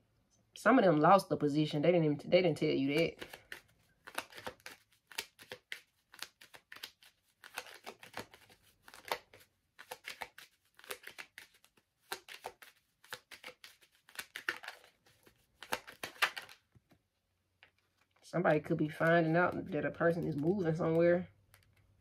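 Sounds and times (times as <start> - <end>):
cards rustling and clicking: 2.8 - 22.0.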